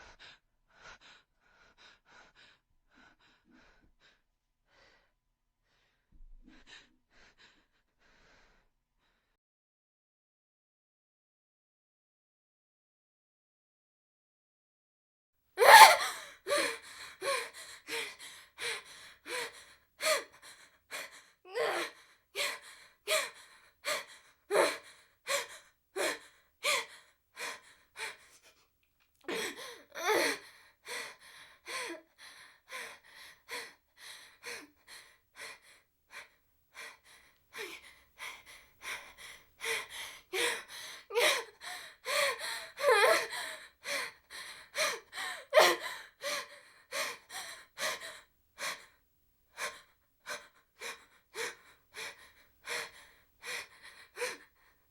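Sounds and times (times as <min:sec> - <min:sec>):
woman breathing heavily: 0:00.0 - 0:09.3, 0:15.6 - 0:28.6, 0:29.3 - 0:54.9.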